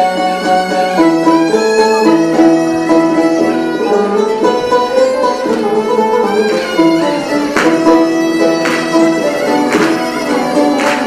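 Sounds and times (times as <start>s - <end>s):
plucked long-necked lute melody: 0.0s - 11.0s.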